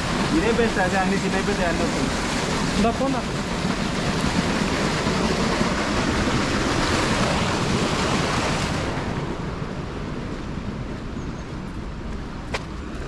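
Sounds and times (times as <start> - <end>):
water rushing through canal: 0.0 - 13.0.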